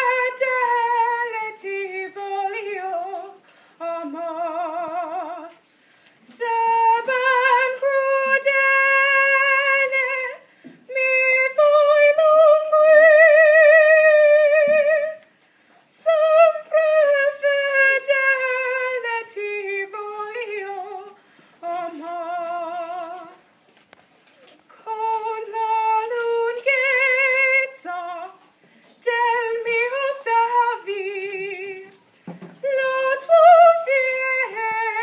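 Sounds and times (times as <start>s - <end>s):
woman singing unaccompanied: 0.0s - 15.3s, 15.9s - 23.4s, 24.7s - 35.0s.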